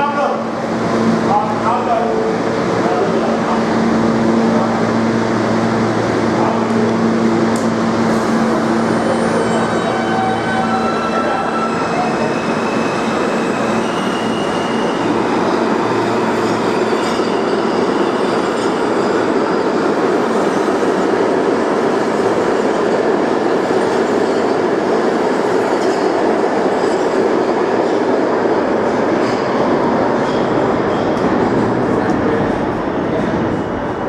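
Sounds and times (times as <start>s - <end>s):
subway train wheels on rail: 0.0s - 34.0s.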